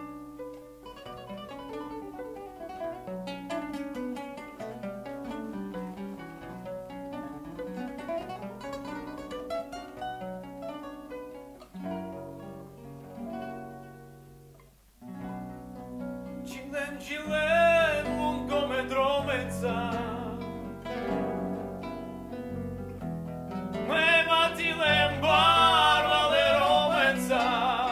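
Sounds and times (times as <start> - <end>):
nylon-string acoustic guitars: 0.0 - 27.9.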